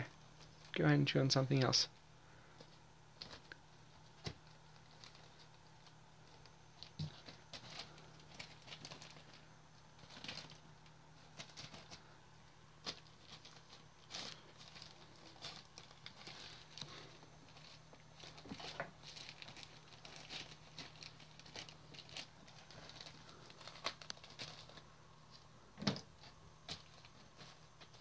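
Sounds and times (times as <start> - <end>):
kittens rustling on plastic bag: 0.0 - 28.0.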